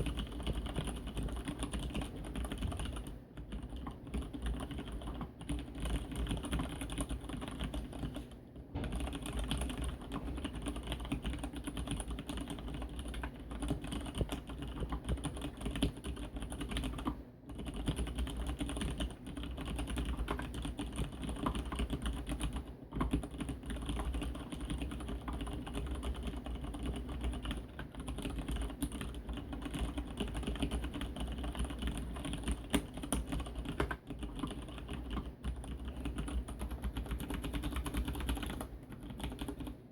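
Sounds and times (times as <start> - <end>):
desk resonating hollowly: 0.0 - 39.9
fast mechanical keyboard typing: 0.0 - 39.9.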